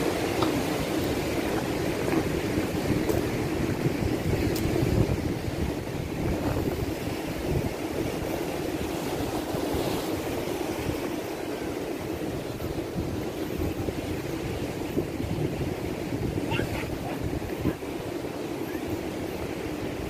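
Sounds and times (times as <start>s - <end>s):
surf breaking on shore: 0.0s - 20.0s
wind rumbling on microphone: 0.0s - 20.0s.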